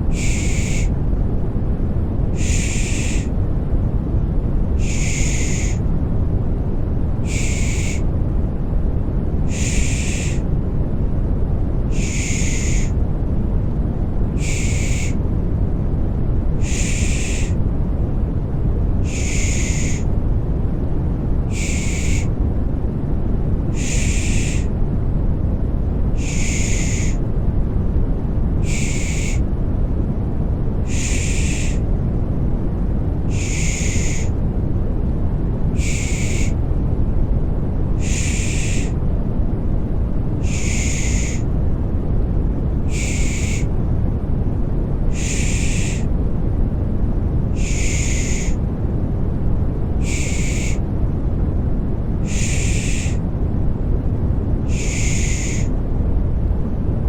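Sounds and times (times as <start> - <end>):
deep white noise: 0.0 - 57.0.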